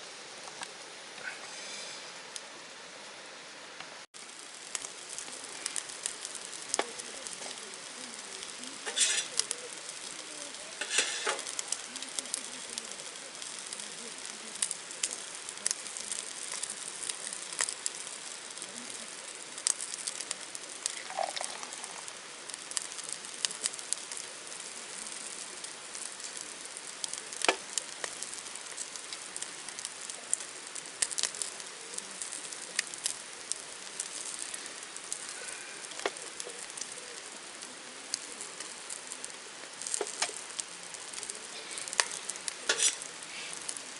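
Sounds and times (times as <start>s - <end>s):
food sizzling in a pan: 0.0s - 3.2s, 4.1s - 43.9s.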